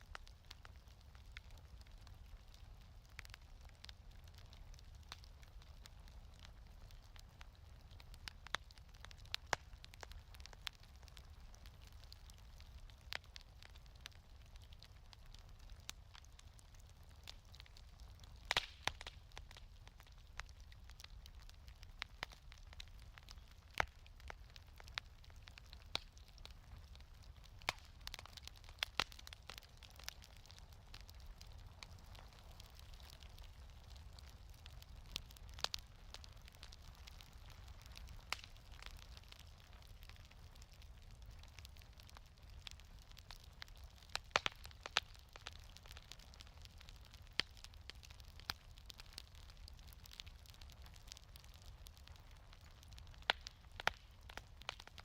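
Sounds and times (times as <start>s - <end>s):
fire crackling and popping: 0.0s - 55.0s
low steady fire rumble: 0.0s - 55.0s.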